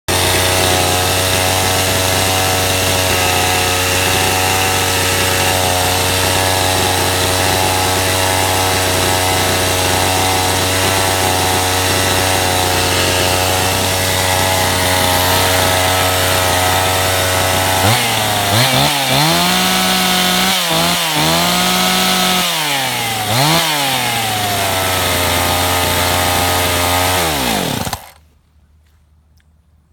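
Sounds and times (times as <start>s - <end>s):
chainsaw engine fast idle: 0.1s - 28.2s.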